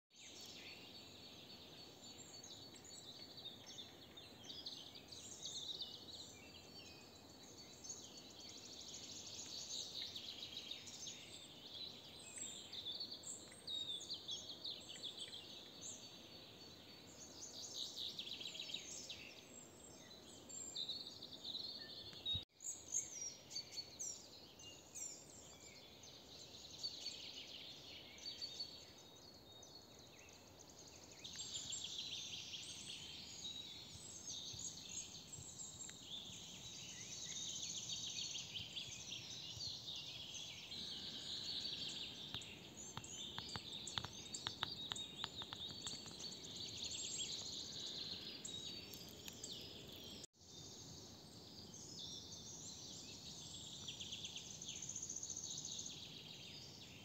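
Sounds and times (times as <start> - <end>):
songbirds chirping and trilling: 0.2 - 57.0.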